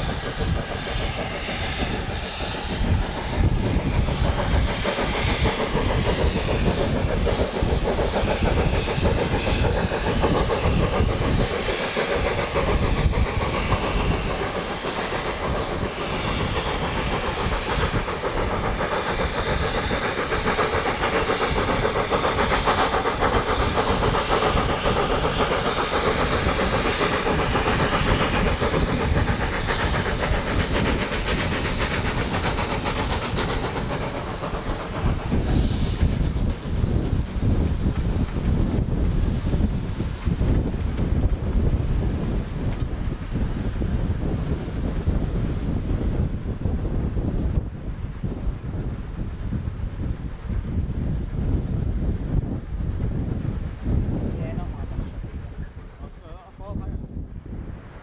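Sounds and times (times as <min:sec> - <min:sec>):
hiss of steam: 0:00.0 - 0:56.9
rail noise: 0:00.0 - 0:58.0
steam train running: 0:00.0 - 0:58.0
wind buffeting microphone: 0:00.0 - 0:58.0.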